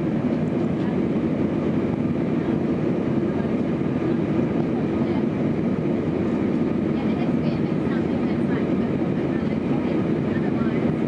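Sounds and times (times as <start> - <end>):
jet cabin engine rumble: 0.0 - 11.0.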